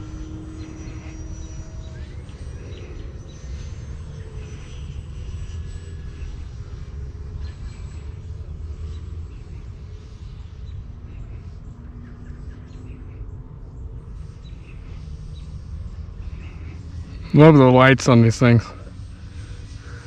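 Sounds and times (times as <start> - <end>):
model airplane motor humming: 0.0 - 20.0
steady low rumble: 0.0 - 20.0.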